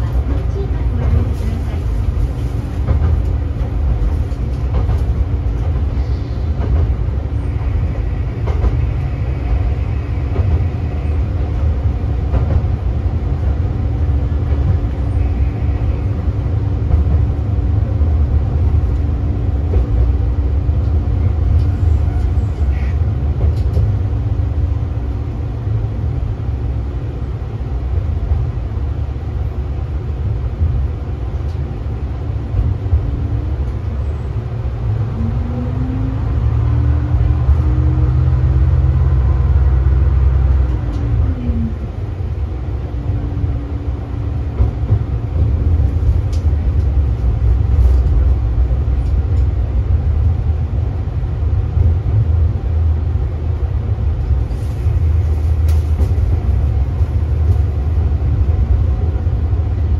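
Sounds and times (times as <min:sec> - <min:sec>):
railcar engine and wheels rumble: 0:00.0 - 0:59.9.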